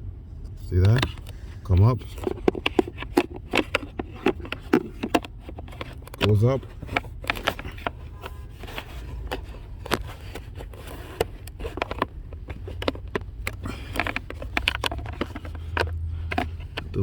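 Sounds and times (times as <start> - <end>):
low steady hum: 0.0 - 17.0
plastic trim clicks and scraping: 0.7 - 17.0.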